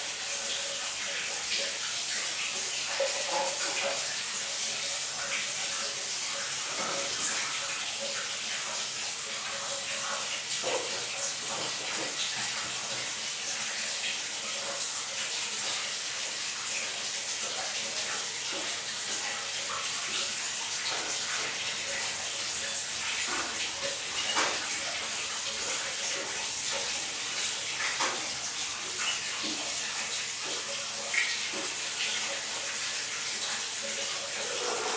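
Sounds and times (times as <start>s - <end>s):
water running and splashing: 0.0s - 34.9s.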